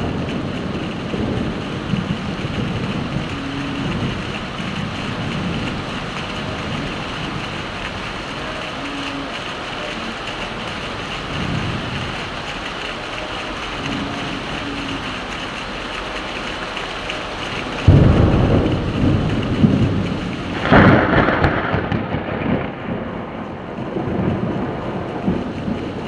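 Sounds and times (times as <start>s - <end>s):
heavy rain: 0.0s - 26.0s
thunder rumbling: 0.0s - 26.0s.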